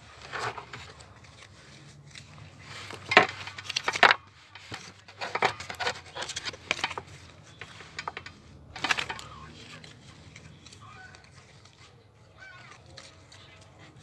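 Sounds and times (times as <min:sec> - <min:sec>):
trading cards flicking and tapping: 0:00.4 - 0:14.0.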